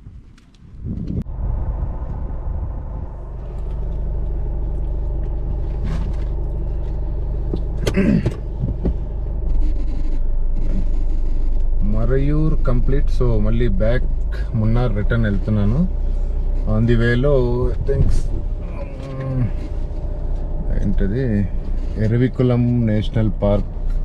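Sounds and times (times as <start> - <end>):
car engine hum: 0.0 - 24.0
road noise inside car: 0.0 - 24.0.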